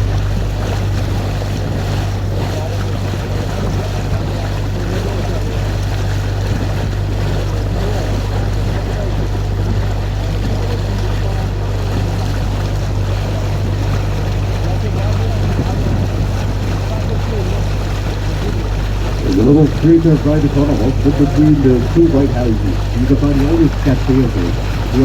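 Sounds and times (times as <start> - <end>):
boat motor humming: 0.0 - 25.0
water noise: 0.0 - 25.0
wind: 0.0 - 25.0.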